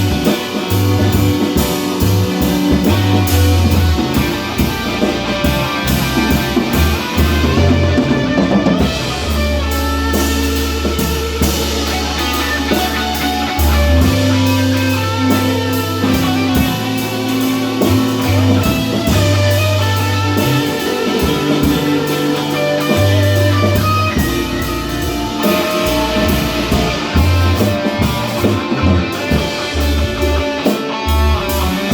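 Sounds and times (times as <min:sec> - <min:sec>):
bass line with held low notes: 0:00.0 - 0:31.9
rock music with guitar and drums: 0:00.0 - 0:31.9.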